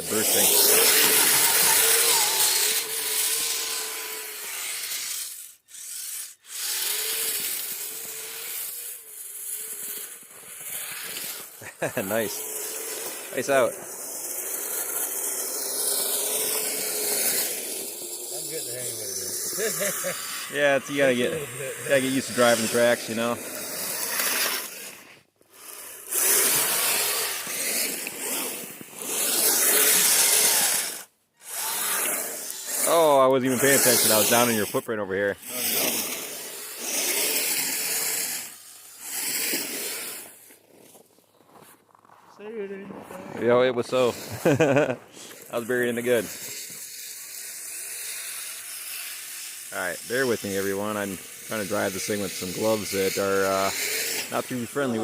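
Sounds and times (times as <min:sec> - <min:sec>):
tracks churning snow: 0:00.0 - 0:04.9, 0:06.8 - 0:55.0
electric motor whining: 0:00.0 - 0:41.0, 0:43.7 - 0:55.0.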